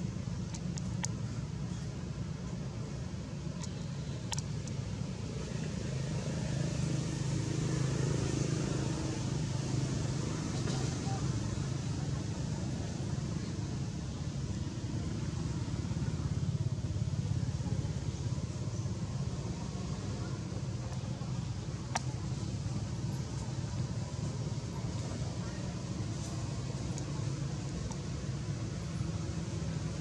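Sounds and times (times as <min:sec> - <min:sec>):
low background rumble: 0:00.0 - 0:07.0, 0:08.7 - 0:30.0.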